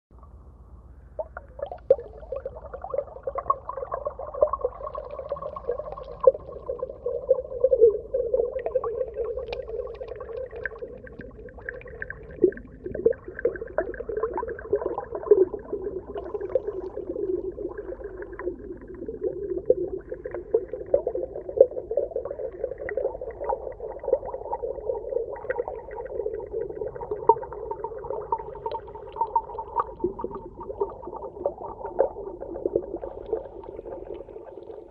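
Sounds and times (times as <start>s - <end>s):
underwater water wash: 0.2s - 34.9s
underwater bubble pops: 1.2s - 34.9s.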